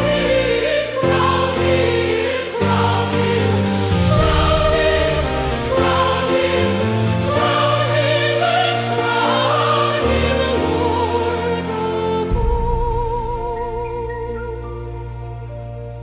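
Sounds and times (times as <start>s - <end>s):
choir singing a hymn: 0.0s - 15.2s
sustained low accompaniment: 0.0s - 16.0s.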